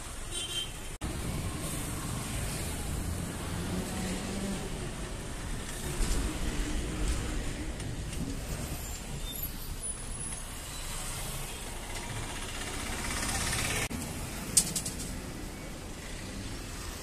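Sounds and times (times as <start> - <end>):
truck and cars passing: 1.0 - 17.0
tyre noise on road: 1.0 - 17.0.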